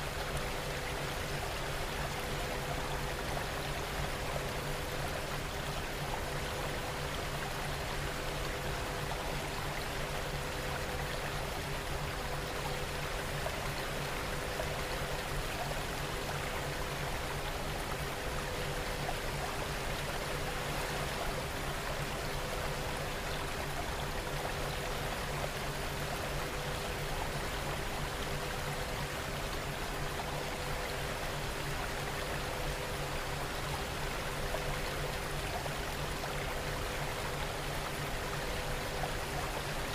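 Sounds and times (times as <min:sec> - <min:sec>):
faint hum tones: 0:00.0 - 0:39.9.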